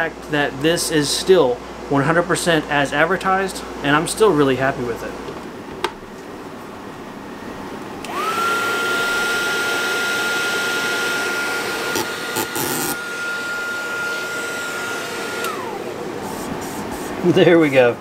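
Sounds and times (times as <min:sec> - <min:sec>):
heat gun fan whining: 0:00.0 - 0:18.0.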